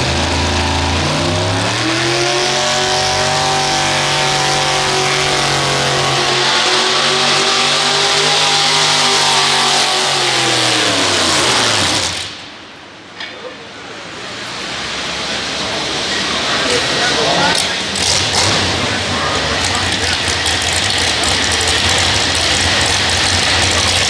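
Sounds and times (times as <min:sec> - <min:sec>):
tractor engine at high revs: 0:00.0 - 0:12.6, 0:14.1 - 0:24.0.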